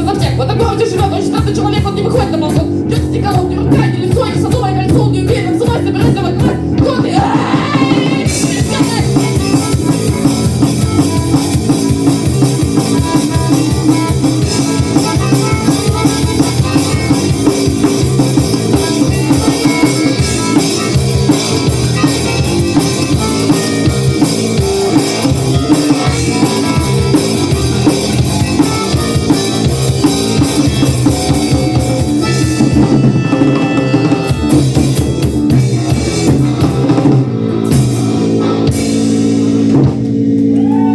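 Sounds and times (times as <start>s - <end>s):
drum kit beat: 0.0s - 40.9s
rock band playing: 0.0s - 40.9s.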